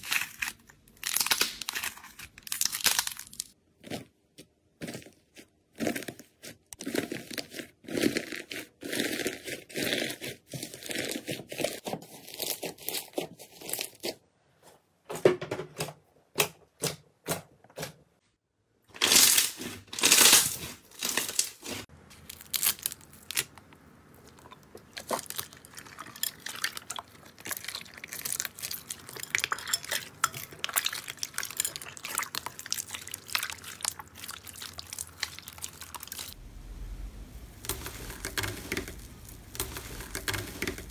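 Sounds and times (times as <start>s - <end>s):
crackling of hardened slime: 0.0s - 14.2s, 18.9s - 40.9s.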